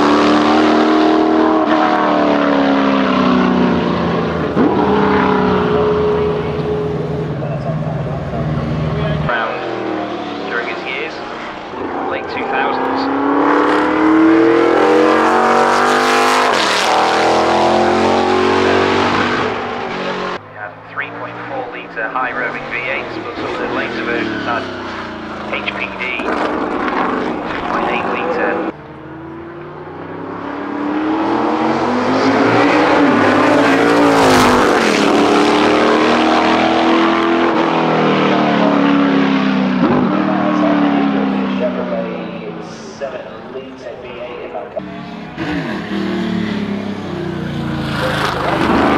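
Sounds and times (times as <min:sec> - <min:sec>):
race car engine accelerating: 0:00.0 - 0:48.9.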